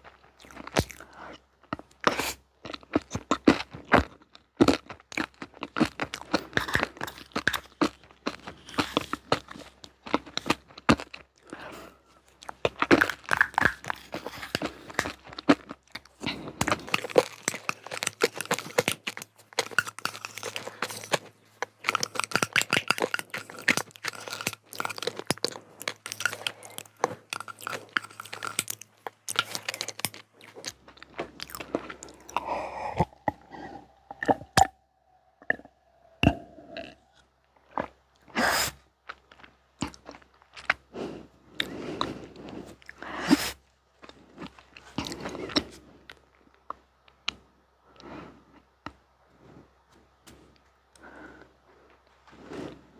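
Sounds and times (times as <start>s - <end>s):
chewing crunchy sweets: 0.0s - 52.9s.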